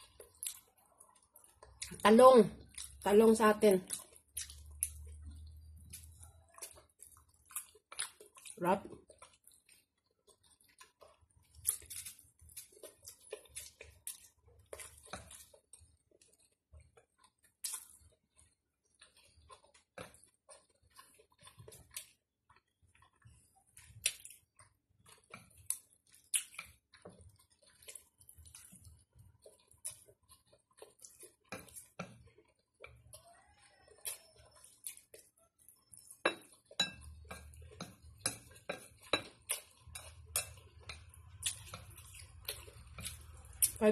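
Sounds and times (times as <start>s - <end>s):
person chewing noodles: 0.0s - 2.0s, 2.6s - 3.1s, 3.8s - 43.8s.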